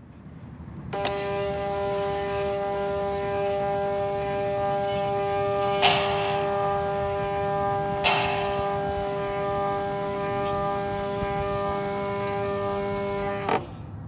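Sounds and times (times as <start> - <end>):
stepper motor whining: 1.0 - 13.8.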